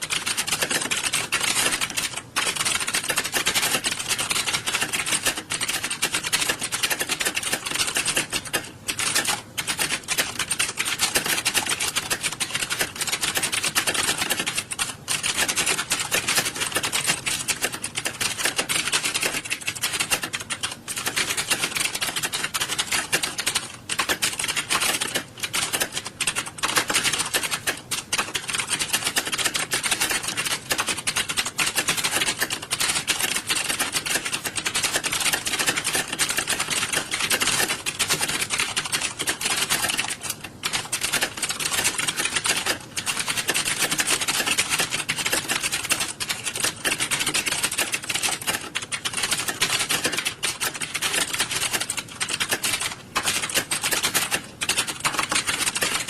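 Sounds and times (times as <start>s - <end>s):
many keyboards typing: 0.0s - 56.0s.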